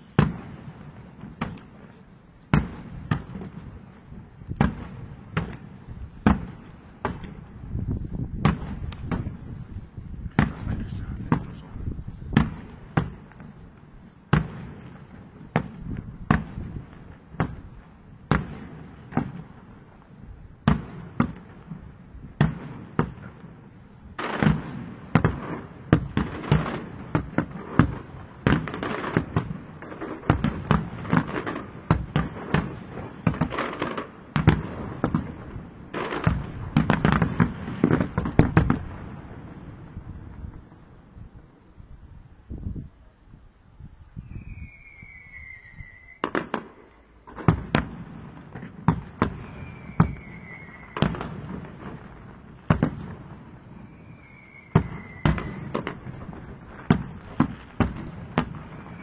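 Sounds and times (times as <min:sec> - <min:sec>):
fireworks bangs with echoes: 0:00.0 - 0:41.0, 0:44.2 - 0:59.0.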